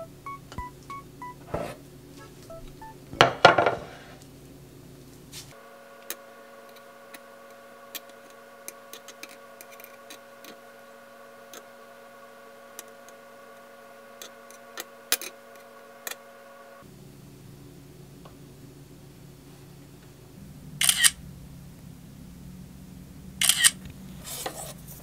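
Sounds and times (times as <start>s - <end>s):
steady tonal hum: 0.0s - 25.0s.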